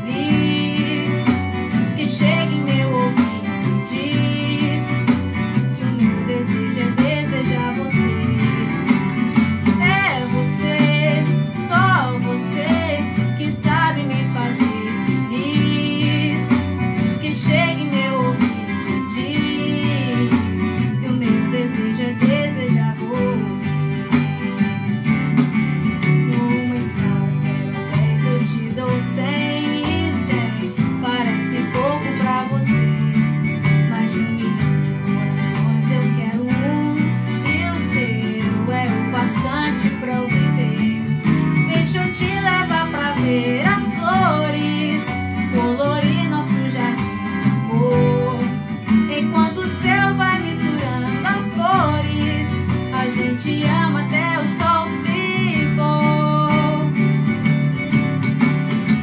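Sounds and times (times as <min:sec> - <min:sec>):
woman singing: 0:00.0 - 0:57.4
acoustic guitar: 0:00.0 - 0:59.0
bass line: 0:00.0 - 0:59.0.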